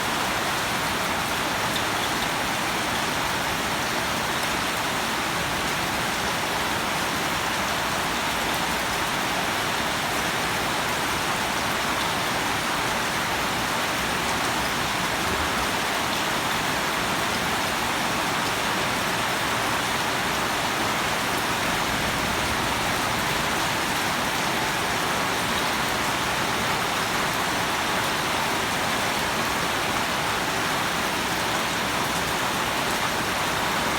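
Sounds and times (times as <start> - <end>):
steady rain pattering: 0.0 - 33.9.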